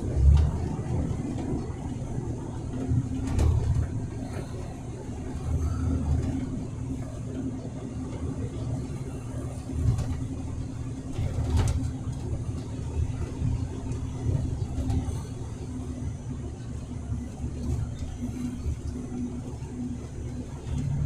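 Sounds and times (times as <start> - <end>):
truck engine drone: 0.0 - 21.0.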